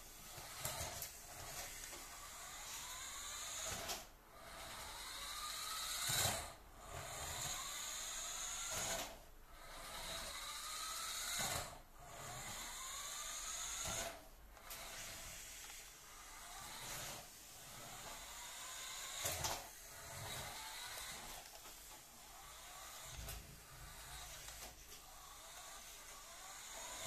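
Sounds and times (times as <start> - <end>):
toy car motor whirring: 0.1 - 27.0.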